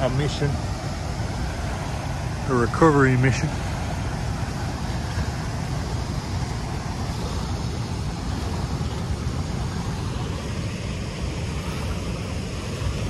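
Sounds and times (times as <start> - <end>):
steady outdoor rushing noise: 0.0 - 13.0.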